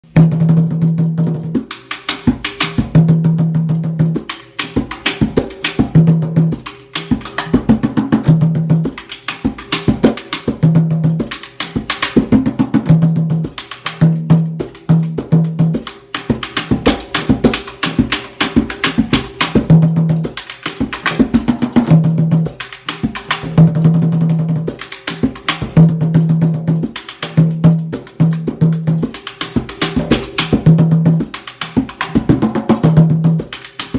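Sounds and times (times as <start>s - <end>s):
hand percussion samba groove: 0.0s - 33.9s.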